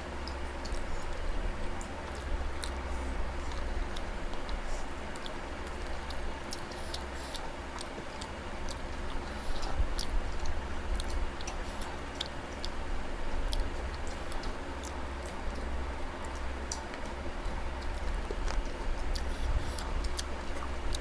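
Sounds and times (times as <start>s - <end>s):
low background hum: 0.0s - 21.0s
people chewing and eating: 0.0s - 21.0s.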